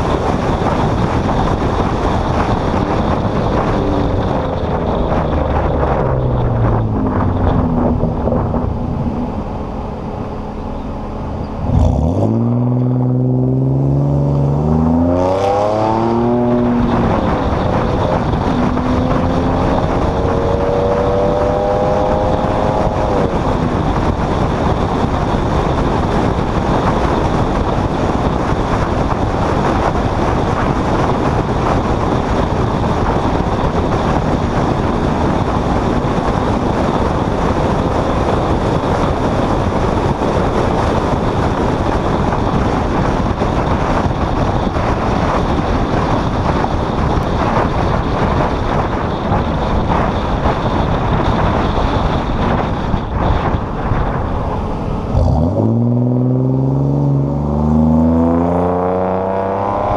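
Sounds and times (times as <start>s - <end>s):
vehicle engine: 0.0s - 59.9s
wind and road noise: 0.0s - 59.9s.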